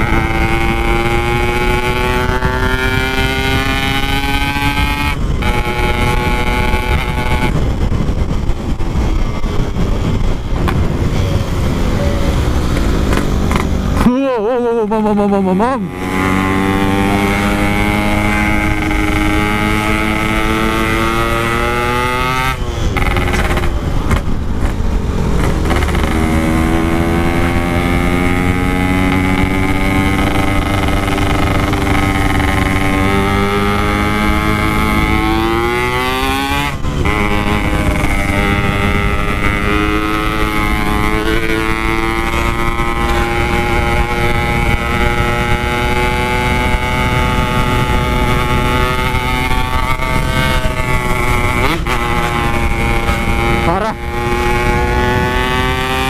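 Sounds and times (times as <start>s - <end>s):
two-stroke motorcycle engine: 0.0s - 56.0s.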